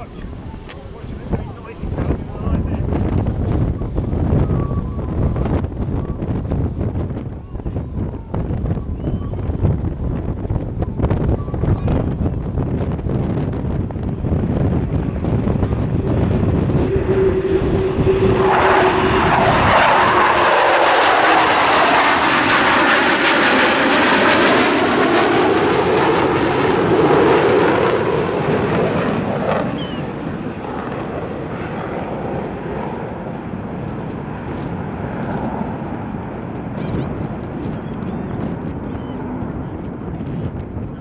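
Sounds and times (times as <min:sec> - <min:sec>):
jet aircraft flying past: 0:00.0 - 0:41.0.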